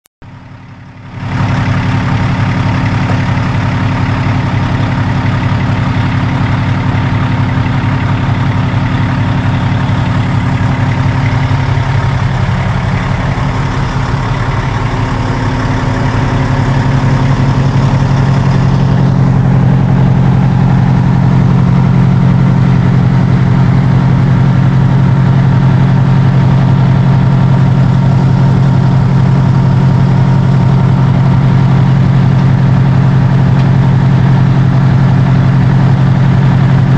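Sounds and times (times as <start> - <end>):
fire engine diesel idling: 0.2 - 36.9.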